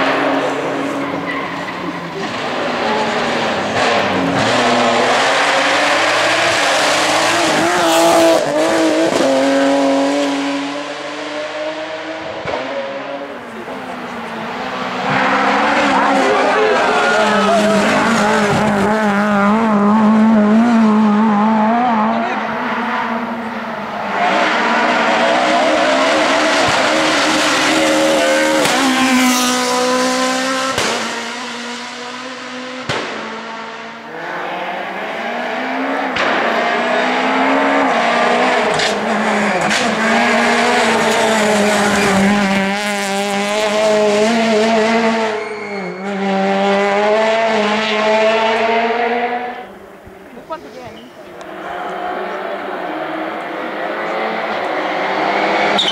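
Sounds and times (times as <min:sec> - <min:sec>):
car engine revving hard: 0:00.0 - 0:50.0, 0:51.3 - 0:55.9.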